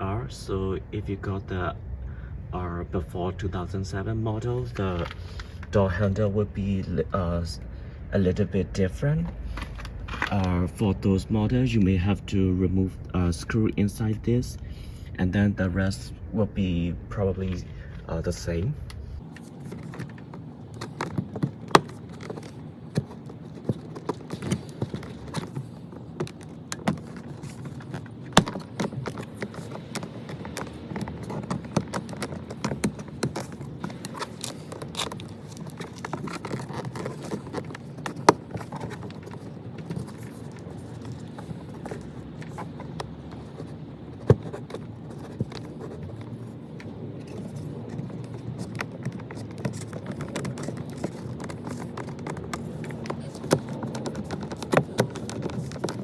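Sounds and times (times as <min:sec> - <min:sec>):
low background rumble: 0:00.0 - 0:56.0.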